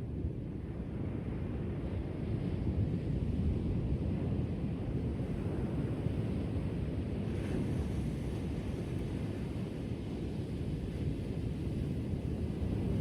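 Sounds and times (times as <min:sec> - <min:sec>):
rumble of waves: 0:00.0 - 0:13.0.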